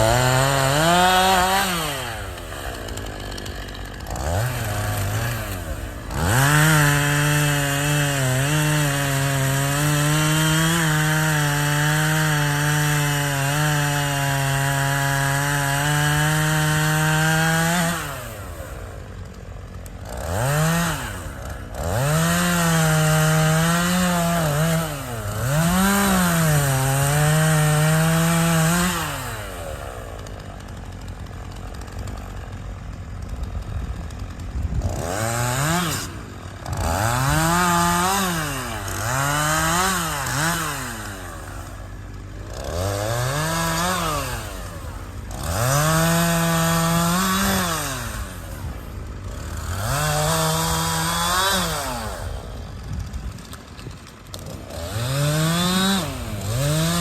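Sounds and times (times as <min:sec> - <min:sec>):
chainsaw cutting wood: 0:00.0 - 0:57.0
chainsaw idling: 0:00.0 - 0:57.0.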